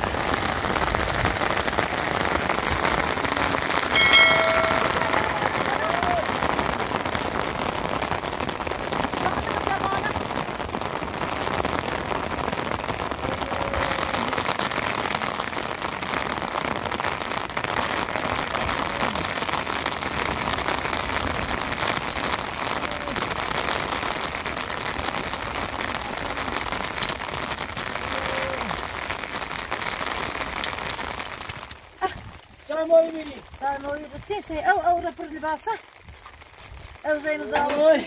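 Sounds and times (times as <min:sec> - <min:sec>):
rain on tents and tarps: 0:00.0 - 0:38.0.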